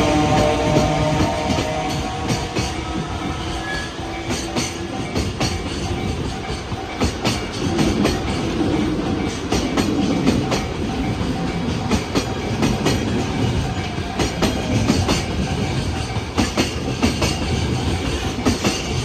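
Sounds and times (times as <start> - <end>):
wheels clacking on rail joints: 0.0 - 19.0
wheels rumbling on track: 0.0 - 19.0.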